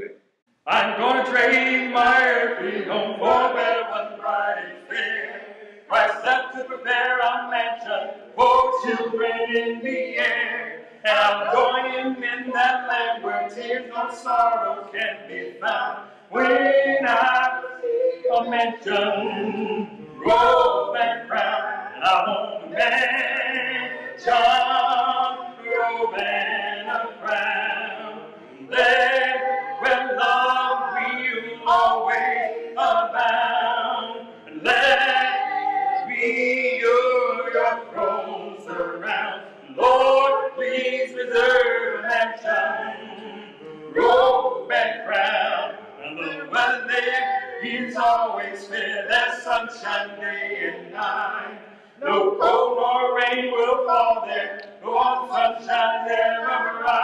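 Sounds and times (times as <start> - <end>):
choir singing a cappella: 0.7 - 57.0.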